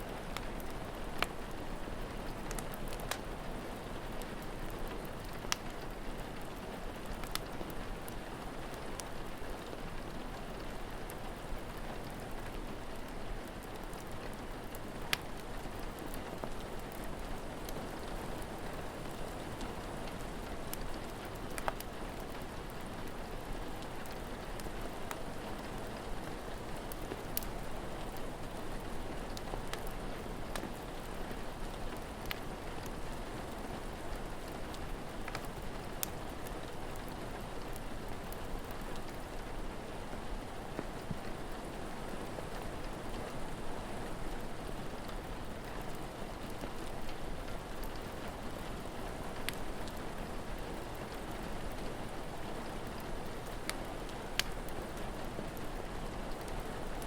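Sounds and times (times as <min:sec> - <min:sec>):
log fire crackling: 0:00.0 - 0:57.0
steady rain: 0:00.0 - 0:57.0.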